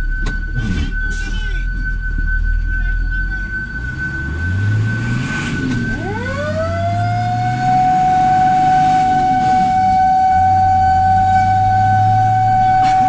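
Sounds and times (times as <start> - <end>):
fire engine siren: 0.0 - 13.0
truck engine running: 0.0 - 13.0.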